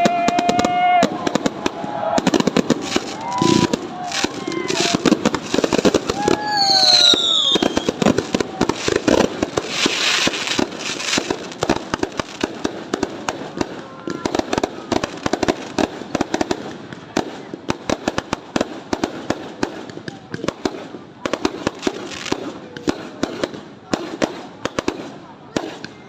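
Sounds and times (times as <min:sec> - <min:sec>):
fireworks banging and crackling: 0:00.0 - 0:26.0.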